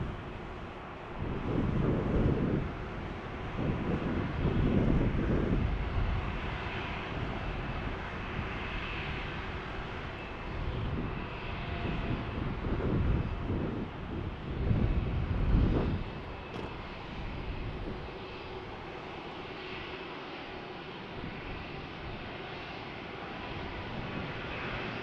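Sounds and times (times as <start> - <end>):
wind on microphone: 0.0 - 19.9, 20.8 - 25.0
jet engines rumbling: 0.0 - 25.0
turbine whine: 0.0 - 25.0.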